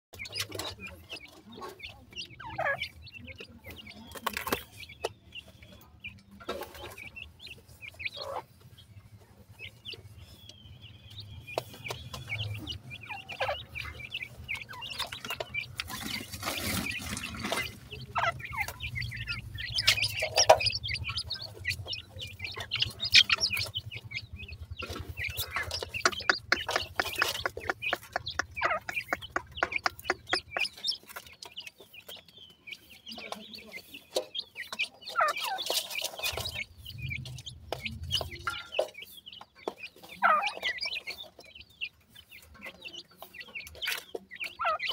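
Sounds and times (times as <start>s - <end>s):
beaks tapping on feed: 0.1s - 44.9s
chicks chirping and clucking: 0.1s - 44.9s.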